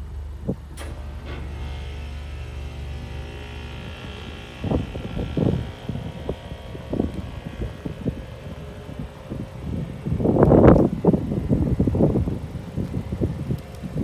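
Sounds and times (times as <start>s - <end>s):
low droning hum: 0.0s - 14.0s
wind buffeting microphone: 0.0s - 14.0s.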